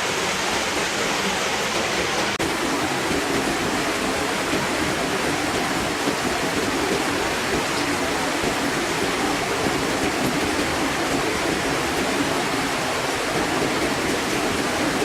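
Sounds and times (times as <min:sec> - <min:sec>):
waterfall pouring into pond: 0:02.3 - 0:15.0.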